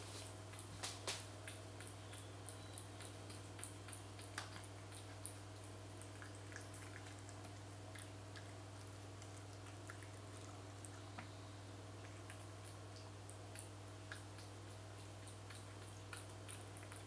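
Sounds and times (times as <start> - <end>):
cat chewing and licking: 0.0 - 17.0
steady low hum: 0.0 - 17.0.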